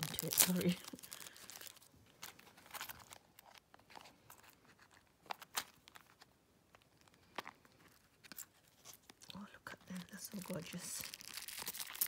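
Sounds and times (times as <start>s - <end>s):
plastic pouch crinkling: 0.0s - 12.0s.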